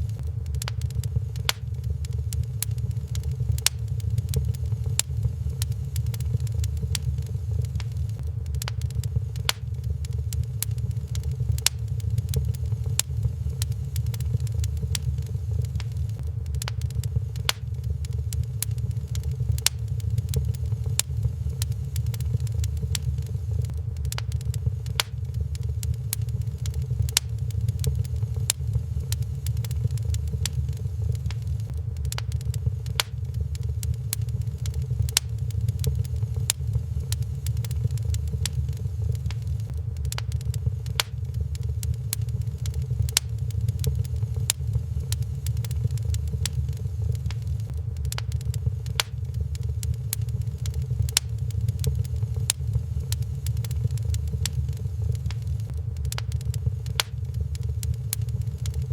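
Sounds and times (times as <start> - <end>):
fire popping and snapping: 0.0 - 58.9
low fire rumble: 0.0 - 58.9.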